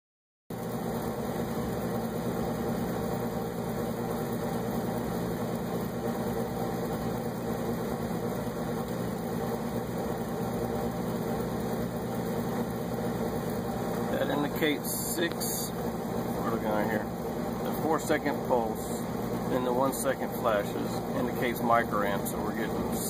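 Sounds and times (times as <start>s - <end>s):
furnace blower noise: 0.5s - 23.0s
gas furnace humming: 0.5s - 23.0s.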